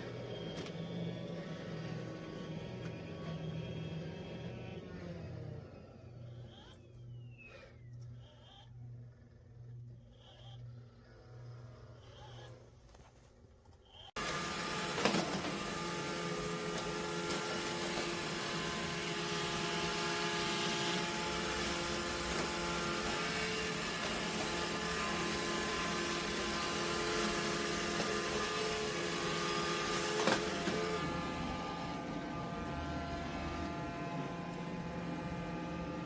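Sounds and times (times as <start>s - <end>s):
robot vacuum whirring: 0.0s - 36.0s.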